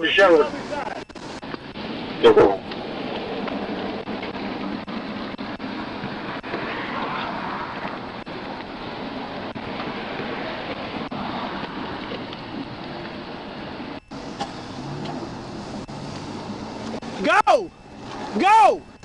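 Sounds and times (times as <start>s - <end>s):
highway traffic road noise: 0.0s - 19.0s.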